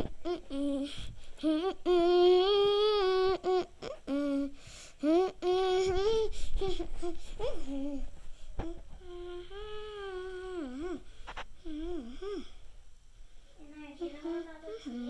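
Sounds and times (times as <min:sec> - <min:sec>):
high voice humming: 0:00.0 - 0:12.6.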